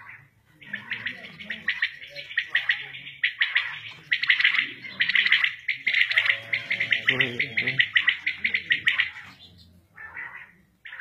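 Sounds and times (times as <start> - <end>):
lower pitched bird call: 0.0 - 11.0
quail chirping: 0.0 - 11.0.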